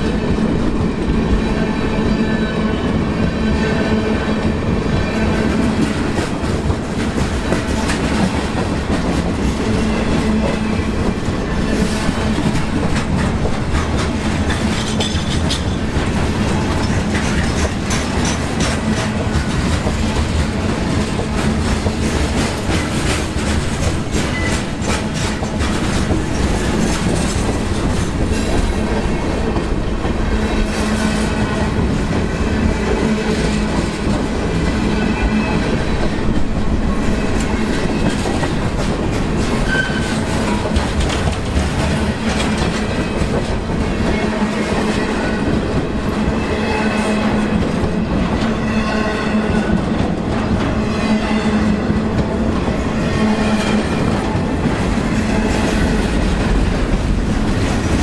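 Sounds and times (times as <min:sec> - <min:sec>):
steel wheels on rail: 0:00.0 - 0:58.0
wheels clickety-clack: 0:05.3 - 0:58.0.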